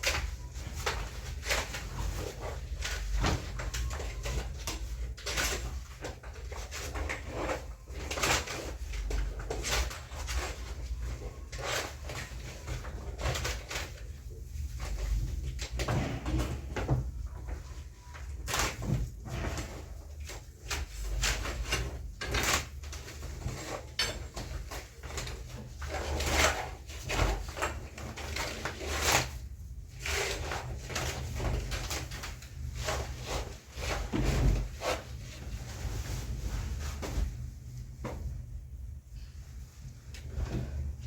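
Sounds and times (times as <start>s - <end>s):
household things clicking and knocking: 0.0s - 41.0s.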